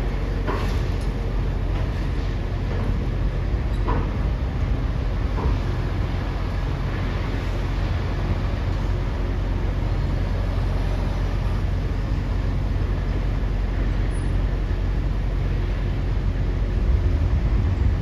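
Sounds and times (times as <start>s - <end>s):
diesel machinery humming: 0.0s - 18.0s.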